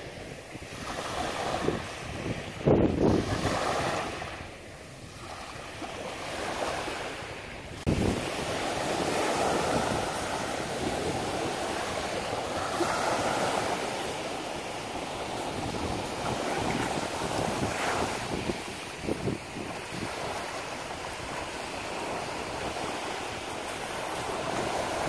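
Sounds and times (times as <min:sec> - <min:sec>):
sea waves washing up a beach: 0:00.0 - 0:25.0.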